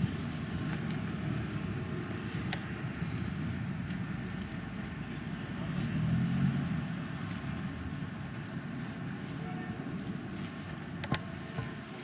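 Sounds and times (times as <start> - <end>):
distant traffic noise: 0.0 - 12.0.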